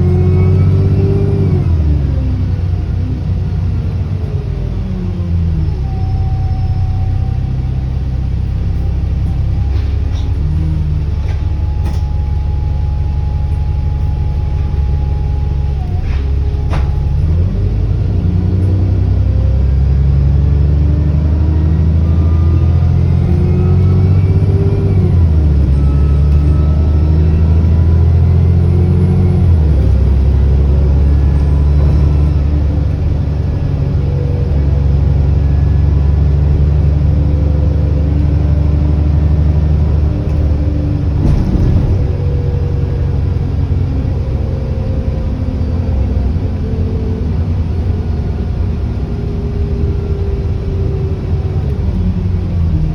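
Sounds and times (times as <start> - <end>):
bus engine accelerating: 0.0 - 52.9
faint turbocharger whine: 0.0 - 52.9.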